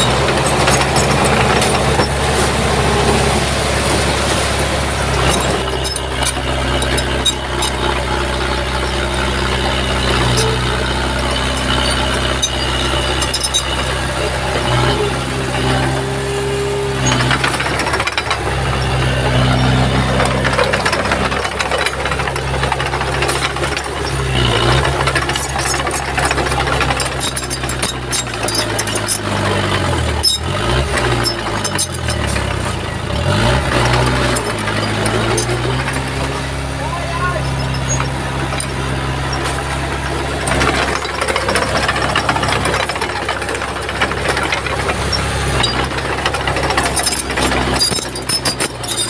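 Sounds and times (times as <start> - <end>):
bulldozer diesel engine: 0.0 - 49.0.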